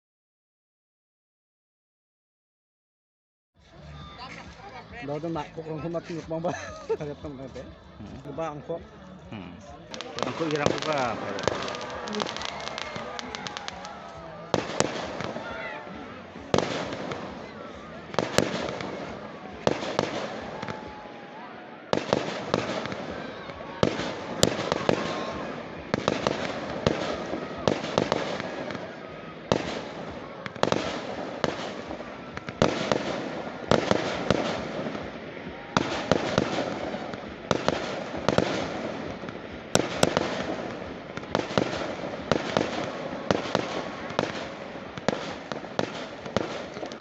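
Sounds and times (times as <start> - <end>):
firecrackers banging: 3.8 - 47.0.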